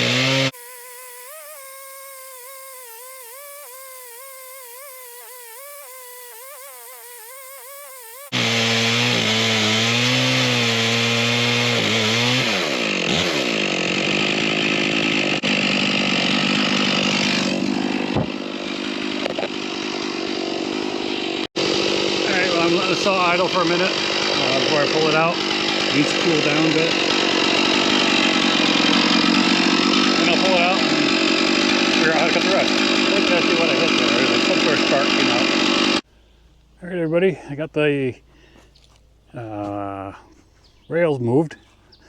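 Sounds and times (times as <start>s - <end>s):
chainsaw cutting log: 0.0s - 36.1s.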